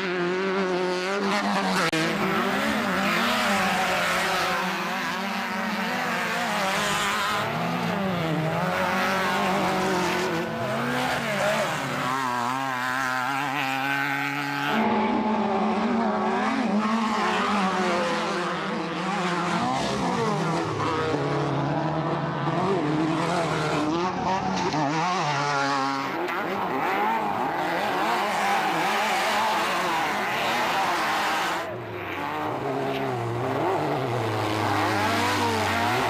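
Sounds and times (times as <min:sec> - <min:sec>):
buggy engines revving: 0:00.0 - 0:36.0.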